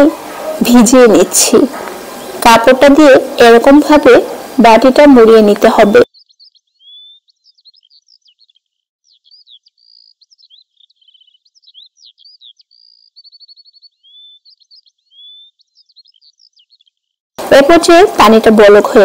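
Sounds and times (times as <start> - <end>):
songbirds singing: 0.1 - 3.1, 3.8 - 17.3.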